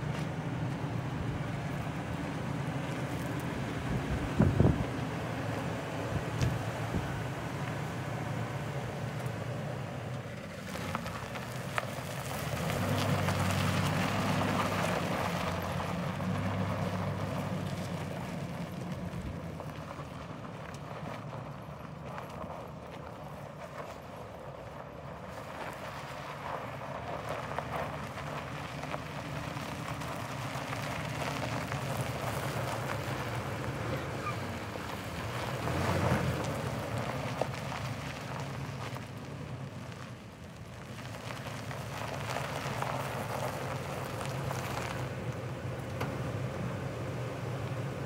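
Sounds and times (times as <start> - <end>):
pickup truck engine running: 0.0 - 48.0.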